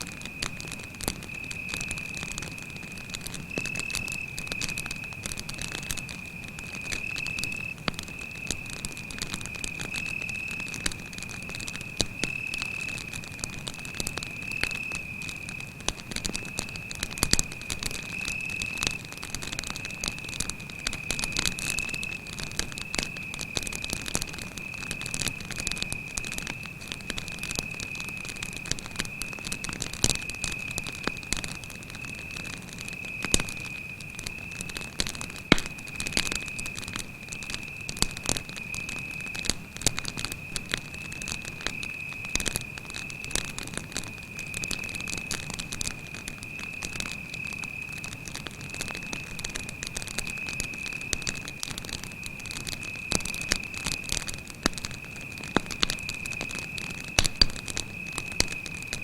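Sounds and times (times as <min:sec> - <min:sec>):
campfire crackling and popping: 0:00.0 - 0:59.0
cricket trilling: 0:00.1 - 0:59.0.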